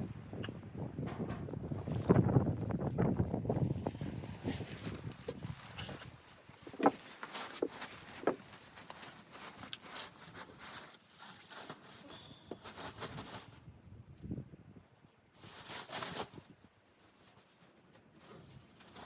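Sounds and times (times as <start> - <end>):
rustling: 1.1 - 13.6, 15.4 - 19.0.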